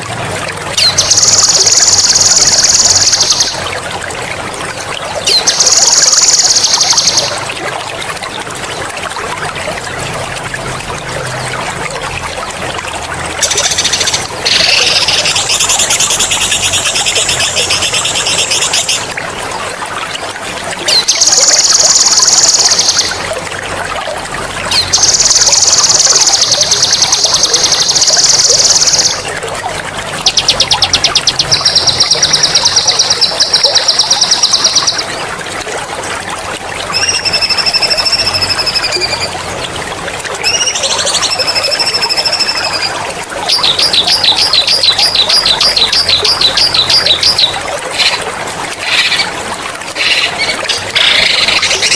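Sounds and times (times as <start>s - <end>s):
water trickling: 0.0s - 51.9s.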